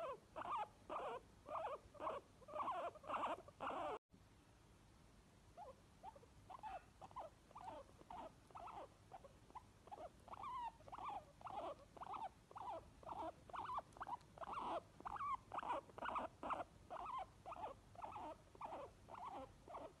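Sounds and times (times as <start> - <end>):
guinea pigs squeaking: 0.0 - 4.0, 5.6 - 20.0.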